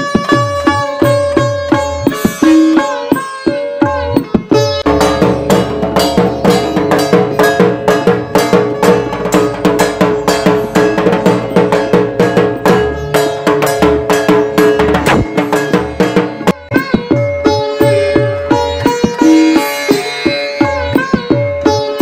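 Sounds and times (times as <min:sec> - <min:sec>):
clanking bell-like beat: 0:00.0 - 0:22.0
music with fast drumming: 0:00.0 - 0:22.0.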